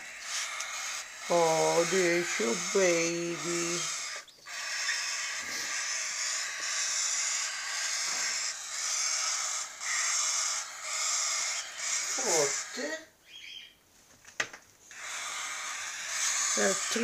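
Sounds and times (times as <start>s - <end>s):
bird chicks hissing: 0.0s - 13.0s, 14.8s - 17.0s.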